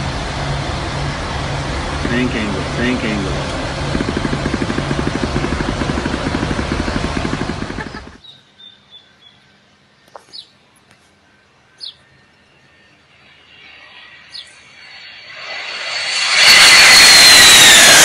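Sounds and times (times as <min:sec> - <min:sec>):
jet engine and airflow noise: 0:00.0 - 0:08.3, 0:09.8 - 0:18.0.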